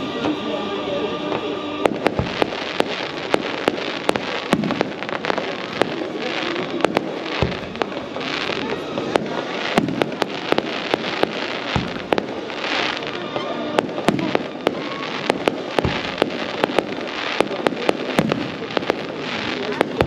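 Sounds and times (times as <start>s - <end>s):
fireworks rumble and crackle: 0.0s - 20.0s
fireworks shells bursting: 1.3s - 20.0s.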